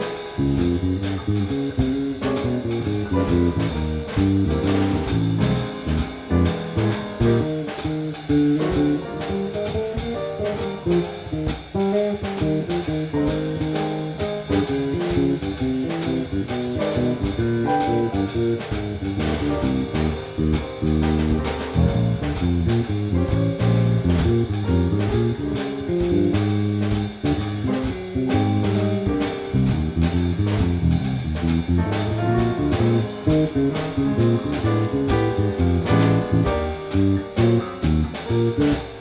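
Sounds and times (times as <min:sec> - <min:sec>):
drum kit with cymbal strikes: 0:00.0 - 0:39.0
walking bass: 0:00.0 - 0:39.0.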